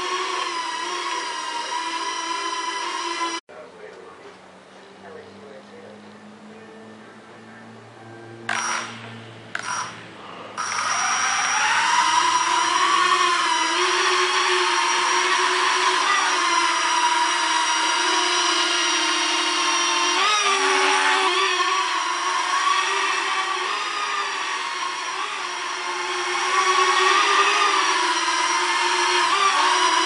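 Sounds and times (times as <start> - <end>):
toy quadcopter motors whining: 0.0 - 3.4, 8.5 - 10.0, 10.6 - 30.0.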